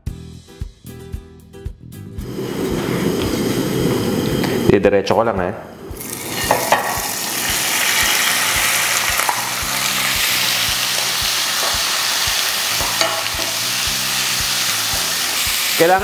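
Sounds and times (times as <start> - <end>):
liver sizzling in hot oil: 2.2 - 4.8, 5.7 - 16.0.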